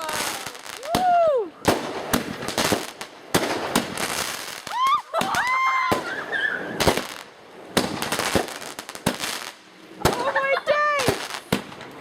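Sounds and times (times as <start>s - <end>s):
fireworks banging: 0.0s - 12.0s
fireworks crackling: 0.0s - 12.0s.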